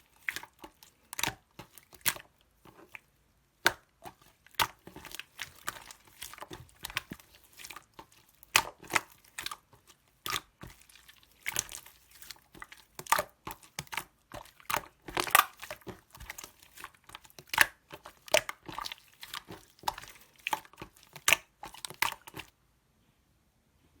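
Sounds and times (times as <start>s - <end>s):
slime squished by hand: 0.0s - 22.5s.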